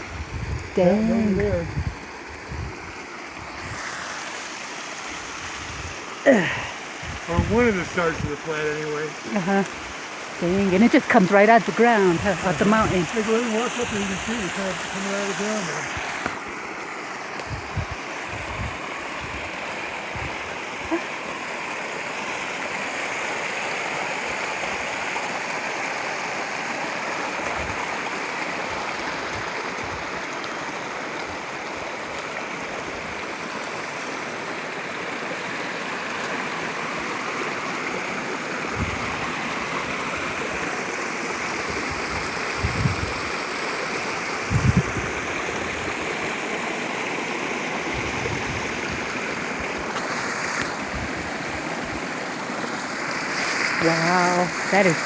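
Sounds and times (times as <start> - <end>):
spring water gushing: 0.0 - 55.0.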